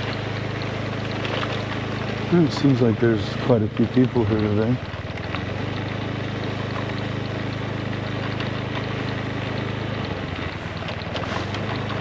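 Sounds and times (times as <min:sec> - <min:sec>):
scooter engine running: 0:00.0 - 0:12.0
wind and road noise: 0:00.0 - 0:12.0.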